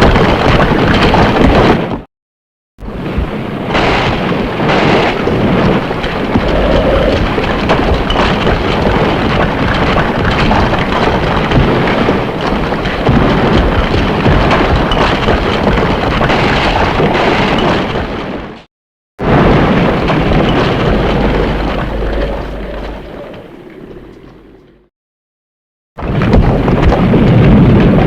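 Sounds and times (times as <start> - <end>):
rumbling crackling noise: 0.0 - 2.1, 2.8 - 24.9, 26.0 - 28.0.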